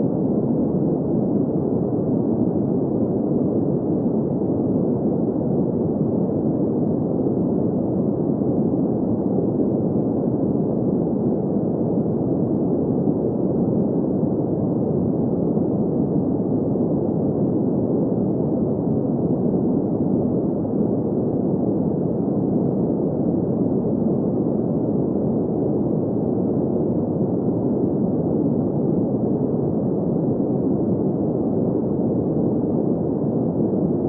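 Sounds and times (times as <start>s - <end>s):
muffled steady hiss: 0.0s - 34.0s.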